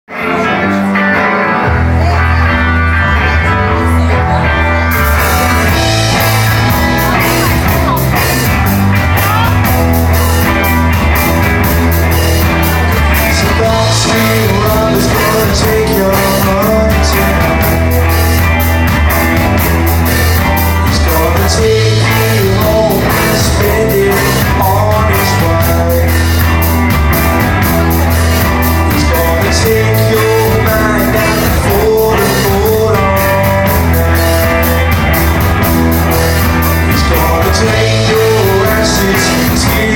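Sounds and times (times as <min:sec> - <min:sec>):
bass guitar: 0:00.0 - 0:39.9
drums: 0:00.1 - 0:39.9
person singing: 0:00.1 - 0:39.9.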